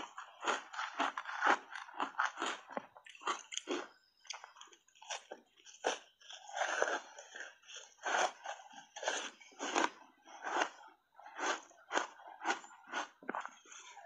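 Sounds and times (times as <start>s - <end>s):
crunching ice being chewed: 0.0s - 14.0s.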